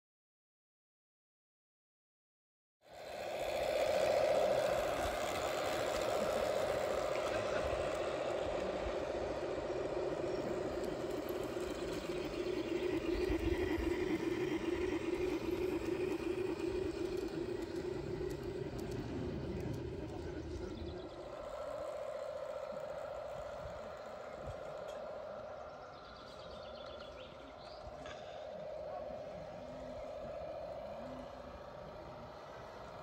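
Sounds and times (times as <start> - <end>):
model train motor whine: 2.8 - 33.0
wheels on track: 2.8 - 33.0.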